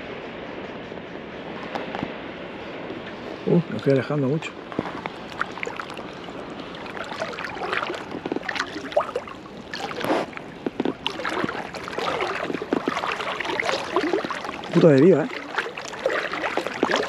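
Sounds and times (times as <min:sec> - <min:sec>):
water lapping against float tube: 0:01.4 - 0:17.0.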